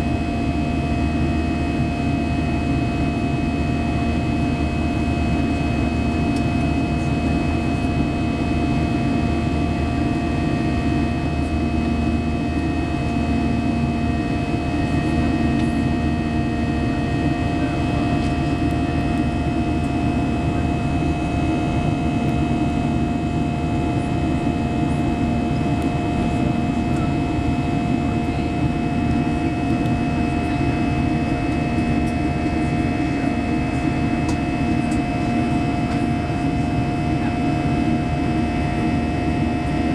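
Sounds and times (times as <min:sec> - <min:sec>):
airplane cabin jet noise: 0:00.0 - 0:39.9.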